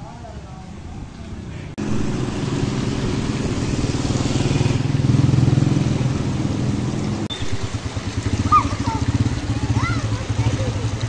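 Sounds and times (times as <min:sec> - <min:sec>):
motorcycle engine running: 0:01.8 - 0:11.0
water hissing under tyres: 0:01.8 - 0:11.0.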